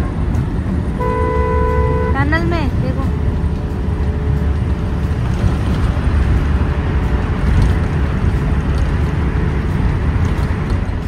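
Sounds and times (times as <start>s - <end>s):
car road noise from inside cabin: 0.0s - 11.0s.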